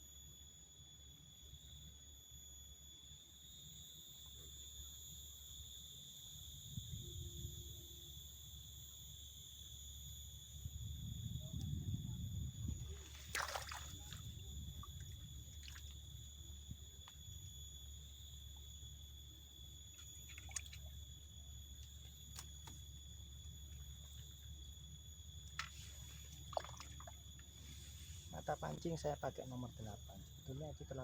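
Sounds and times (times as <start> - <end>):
insect trill: 0.0 - 31.0.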